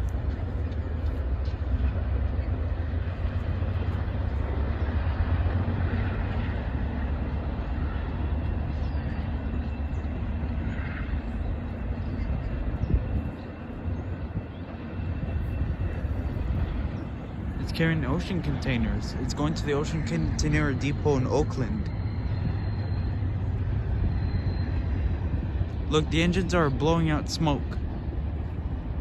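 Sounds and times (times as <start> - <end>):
freight train passing: 0.0 - 29.0.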